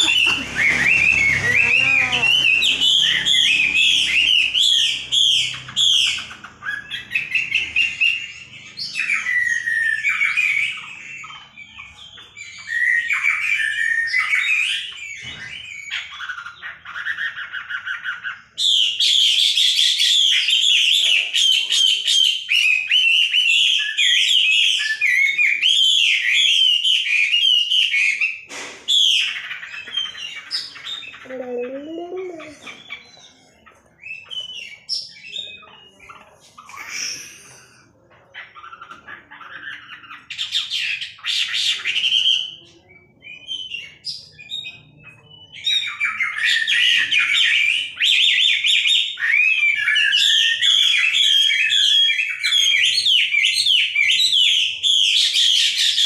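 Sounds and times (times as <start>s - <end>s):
songbird chirps and trills: 0.0s - 56.0s.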